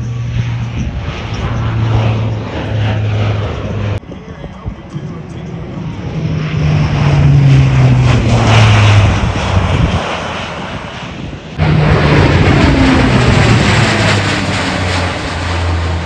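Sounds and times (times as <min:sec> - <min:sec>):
turboprop plane passing: 0:00.0 - 0:16.0.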